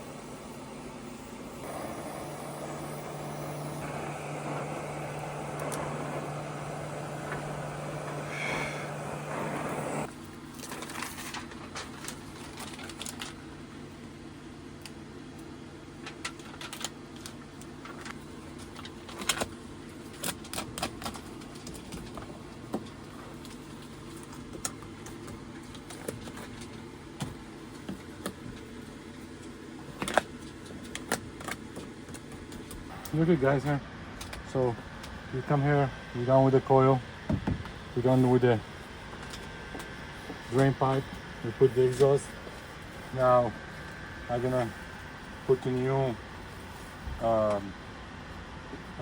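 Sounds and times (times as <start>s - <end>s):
steady low hum: 0.0s - 15.9s, 21.1s - 49.0s.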